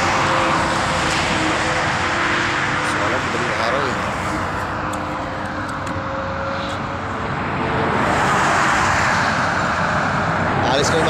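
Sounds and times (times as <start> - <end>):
motorway traffic passing: 0.0 - 11.0.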